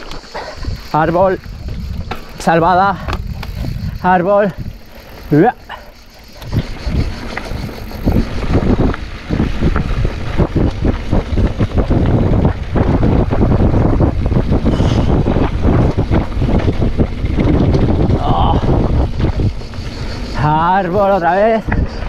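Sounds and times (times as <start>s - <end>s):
bike rattling over dirt trail: 0.0s - 22.0s
wind buffeting microphone: 0.0s - 22.0s.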